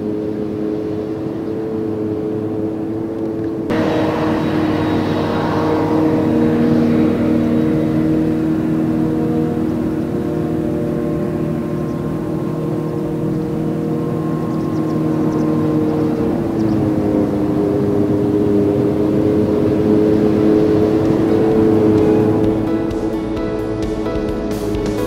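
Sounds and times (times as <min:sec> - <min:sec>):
harvester engine humming: 0:00.0 - 0:25.0.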